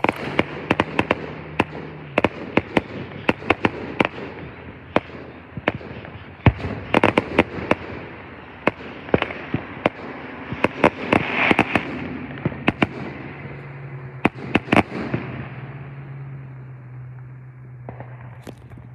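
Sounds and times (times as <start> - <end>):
distant firework bangs: 0.0 - 16.2, 17.1 - 18.9
firework crackling: 0.0 - 16.3, 17.2 - 18.9.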